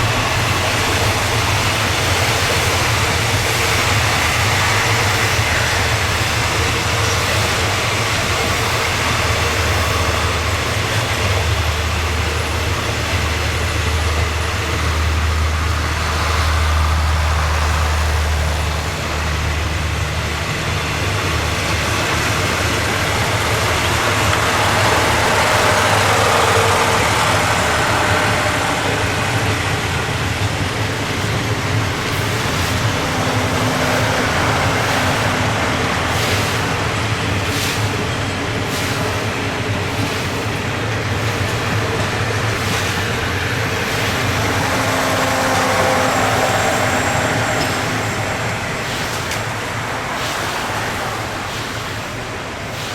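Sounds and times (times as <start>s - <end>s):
passenger train running: 0.0s - 52.9s.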